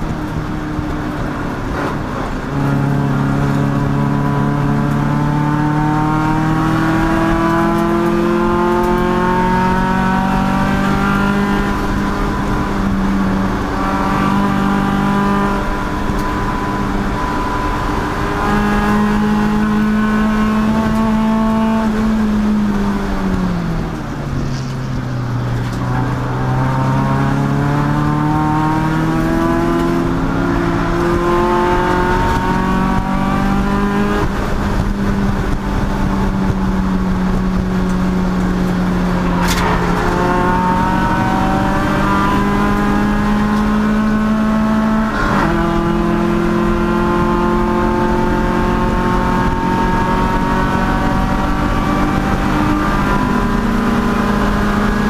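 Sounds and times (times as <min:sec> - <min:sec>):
race car engine under throttle: 0:00.0 - 0:55.0.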